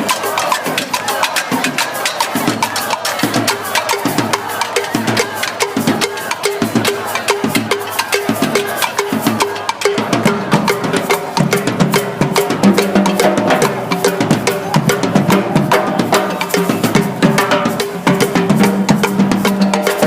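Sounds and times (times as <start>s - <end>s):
music with busy drum beat: 0.0s - 20.0s.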